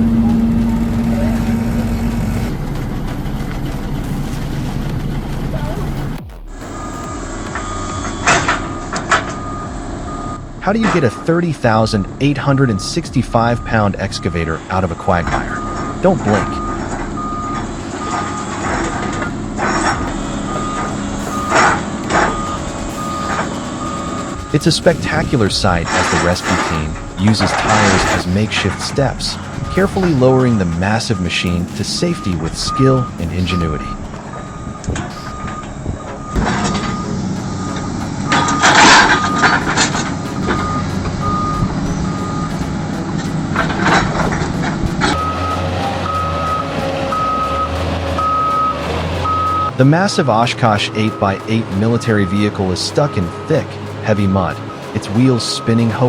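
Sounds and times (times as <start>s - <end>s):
engine running: 0.0s - 56.0s
loud rushing noise bursts: 0.0s - 56.0s
reversing alarm beeping: 0.0s - 56.0s.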